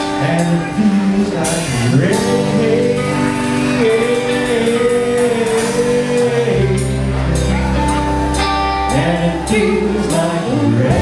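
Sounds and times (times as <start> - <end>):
blues band playing: 0.0 - 11.0
lead guitar bending notes: 0.0 - 11.0.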